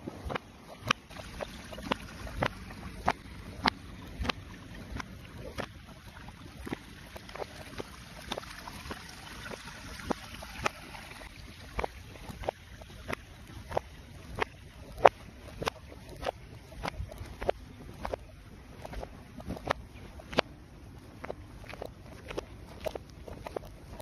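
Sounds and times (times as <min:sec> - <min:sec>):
reversed footsteps of shoes: 0:00.0 - 0:24.0.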